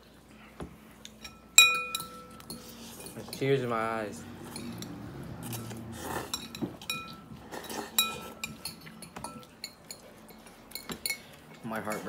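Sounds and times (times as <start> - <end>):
forks clinking on ceramic bowls: 1.1 - 12.0.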